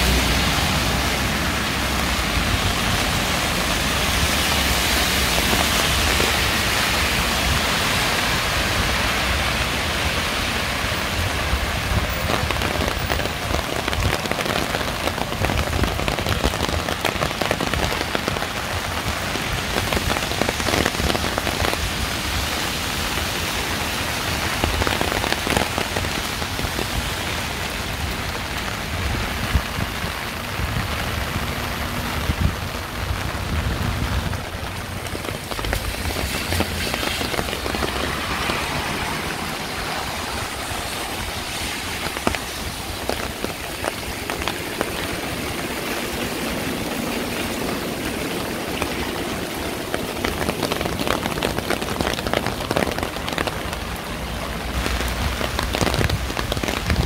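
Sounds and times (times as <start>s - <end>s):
steady rain with ticking drops: 0.0s - 57.0s.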